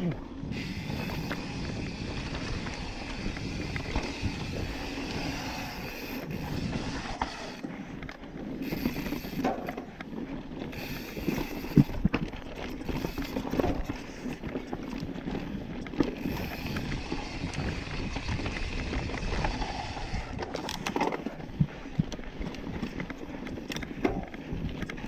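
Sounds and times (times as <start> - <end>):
bike rattling over bumps: 0.0 - 25.0
bike tyres on dirt trail: 0.0 - 25.0.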